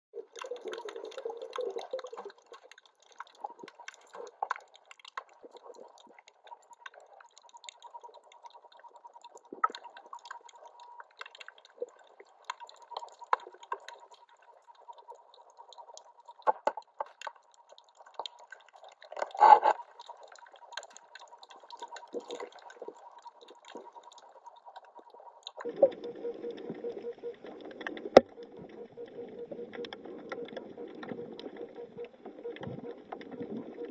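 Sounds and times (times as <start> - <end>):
underwater water moving: 0.2 - 33.9.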